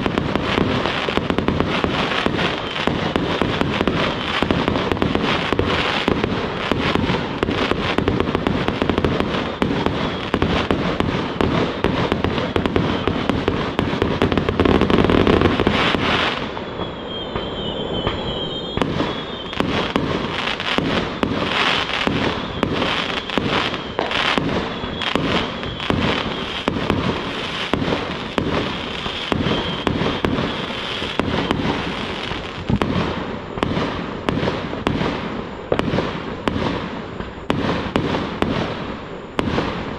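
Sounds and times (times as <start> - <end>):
high firework whistle: 0.0 - 33.0
fireworks bangs and crackling: 0.0 - 39.9.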